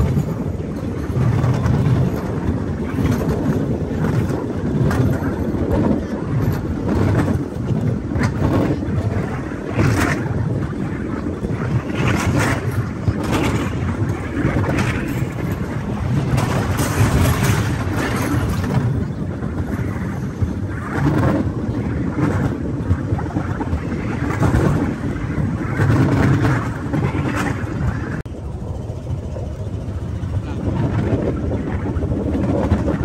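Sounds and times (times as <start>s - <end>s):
train wheels rumbling on rails: 0.0s - 33.0s
wind buffeting microphone: 0.0s - 33.0s.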